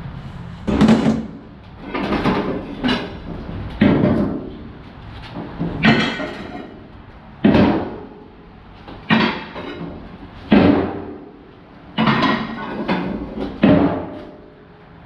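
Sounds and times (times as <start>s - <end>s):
heavy strikes on scrap metal: 0.0s - 14.6s.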